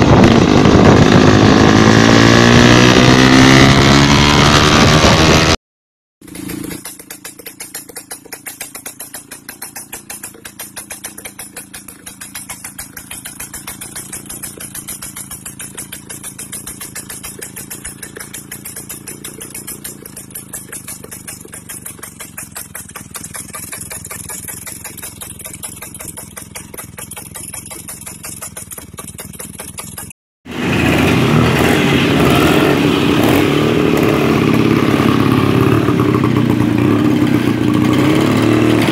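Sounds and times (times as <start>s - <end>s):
scooter engine idling: 6.2s - 38.9s.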